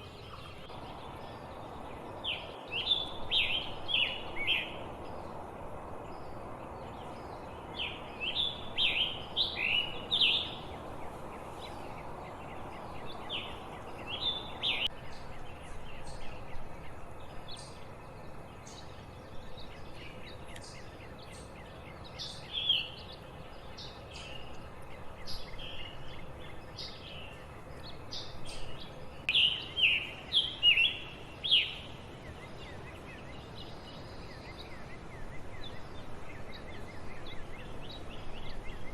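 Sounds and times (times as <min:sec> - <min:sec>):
bird singing: 0:00.0 - 0:38.9
steady background hiss: 0:00.0 - 0:38.9.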